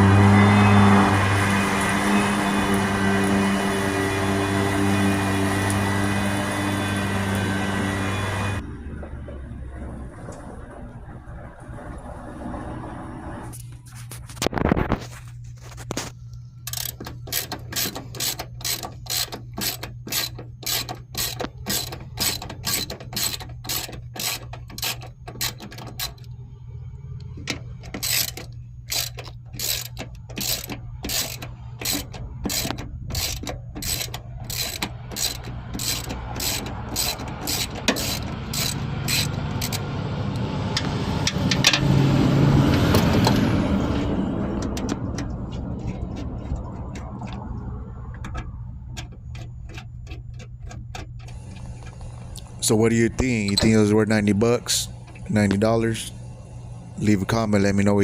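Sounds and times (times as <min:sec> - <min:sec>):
electric mower hum: 0:00.0 - 0:08.7, 0:14.5 - 0:58.0.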